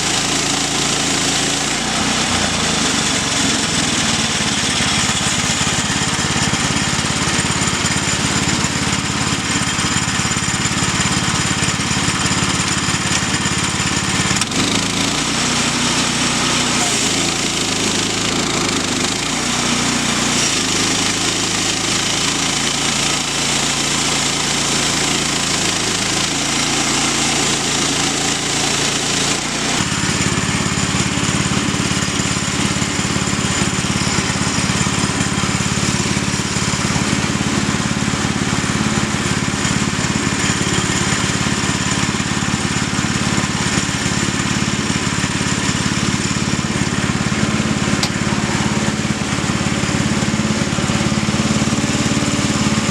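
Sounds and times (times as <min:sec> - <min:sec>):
small gasoline engine running sawmill: 0:00.0 - 0:52.9.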